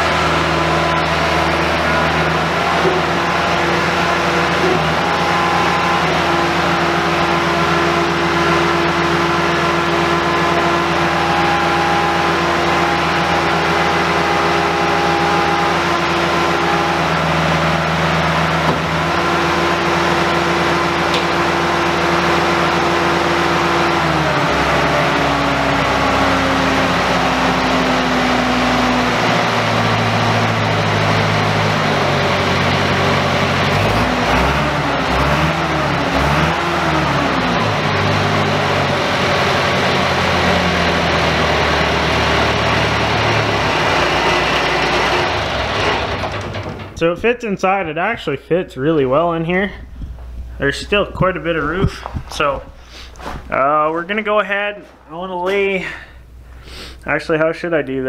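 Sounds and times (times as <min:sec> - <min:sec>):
hydraulic pump whine: 0:00.0 - 0:47.3
skid steer engine running: 0:00.0 - 0:47.3.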